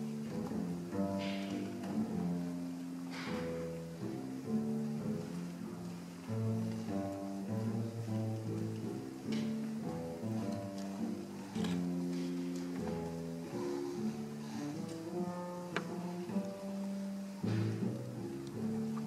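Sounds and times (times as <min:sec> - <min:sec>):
bowed double bass: 0:00.0 - 0:19.0.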